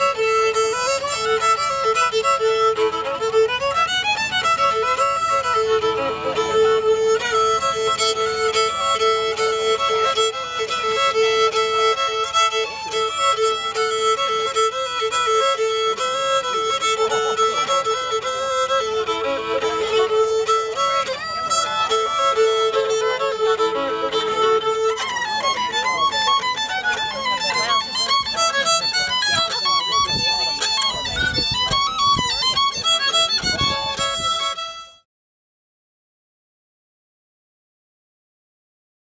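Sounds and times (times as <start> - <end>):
solo violin tune: 0.0 - 35.1.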